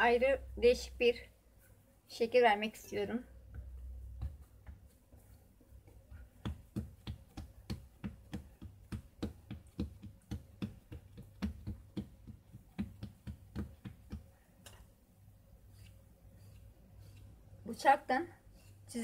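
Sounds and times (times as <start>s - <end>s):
hands patting dough: 3.4s - 19.0s.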